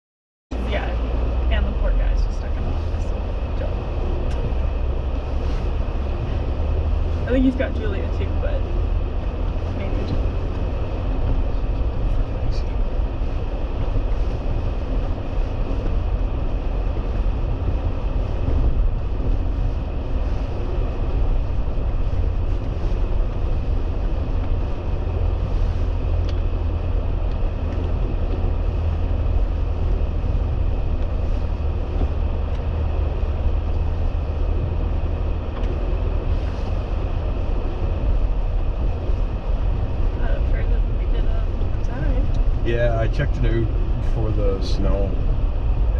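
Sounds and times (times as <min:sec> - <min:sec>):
engine and tyre rumble: 0:00.5 - 0:45.9.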